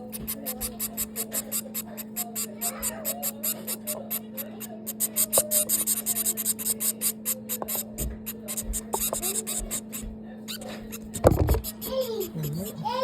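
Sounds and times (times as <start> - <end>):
nestlings begging cheeps: 0.0 - 13.0.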